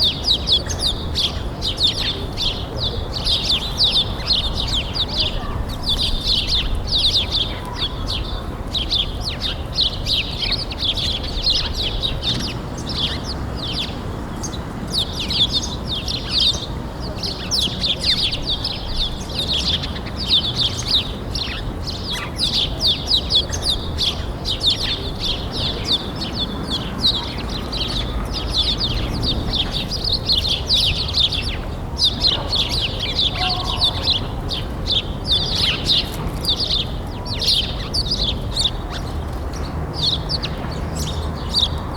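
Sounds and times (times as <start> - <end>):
small birds chirping chorus: 0.0 - 41.9.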